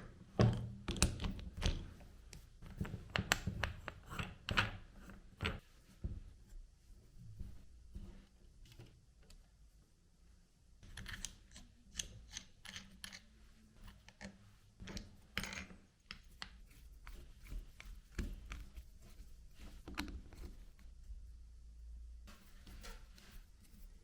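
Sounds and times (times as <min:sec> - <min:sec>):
hands working on small parts: 0:00.0 - 0:09.8, 0:10.8 - 0:24.0.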